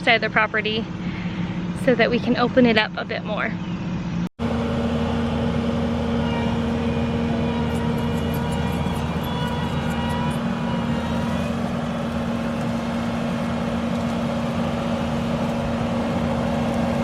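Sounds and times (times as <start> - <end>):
loader engine humming: 0.0 - 17.0.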